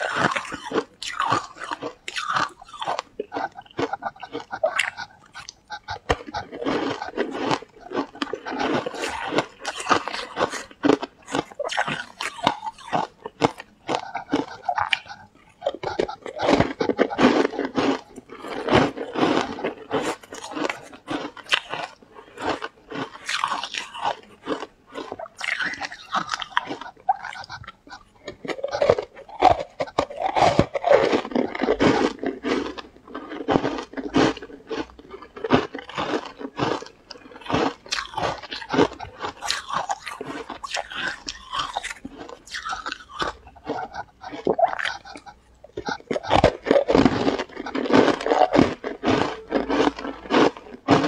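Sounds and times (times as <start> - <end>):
crunching and chewing food: 0.0 - 51.0.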